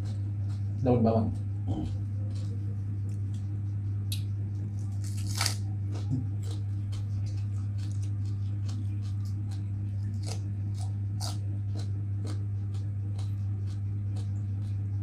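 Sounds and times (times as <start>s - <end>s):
chewing raw vegetables: 0.0s - 15.0s
steady low hum: 0.0s - 15.0s.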